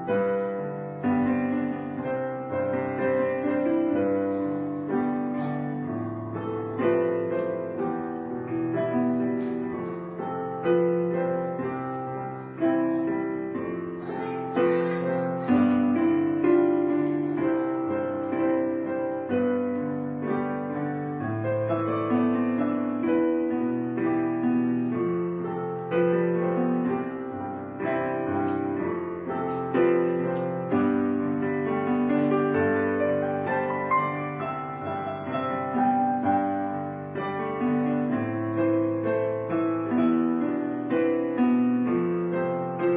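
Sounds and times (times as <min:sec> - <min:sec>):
piano music: 0:00.0 - 0:42.9.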